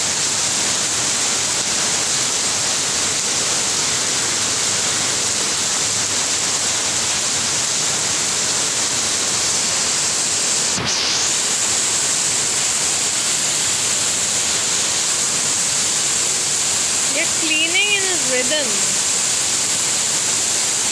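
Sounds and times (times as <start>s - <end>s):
heavy rainfall hissing: 0.0s - 20.9s.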